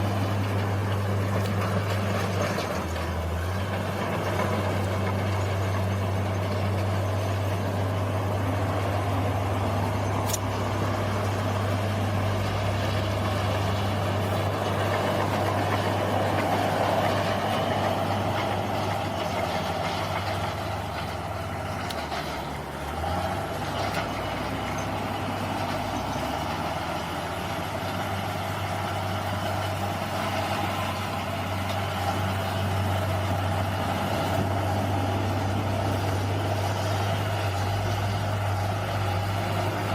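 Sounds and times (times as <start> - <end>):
bulldozer diesel engine drone: 0.0 - 39.9.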